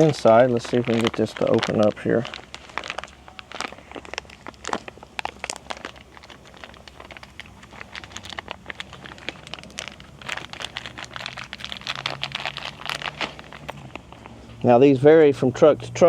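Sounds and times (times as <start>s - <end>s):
hands clicking and crinkling at car door: 0.0s - 14.4s.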